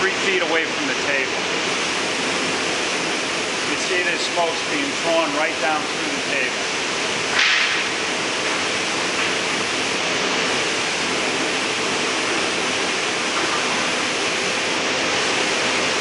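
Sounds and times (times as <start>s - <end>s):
air rushing through grate: 0.0s - 16.0s.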